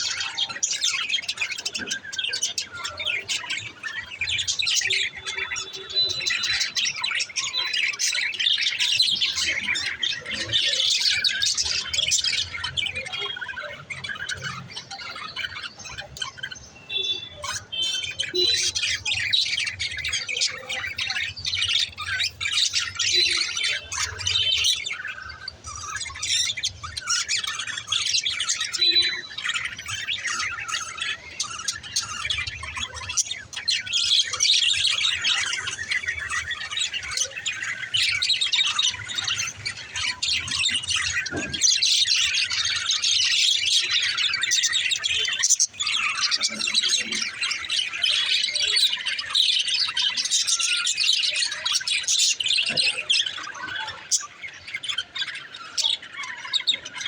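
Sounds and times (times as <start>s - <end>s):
budgerigars chattering and chirping: 0.0s - 57.0s.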